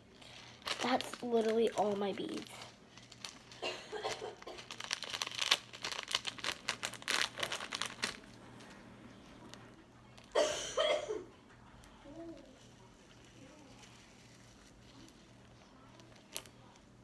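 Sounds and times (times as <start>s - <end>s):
plastic bag crinkling: 0.1s - 10.3s, 12.2s - 17.0s.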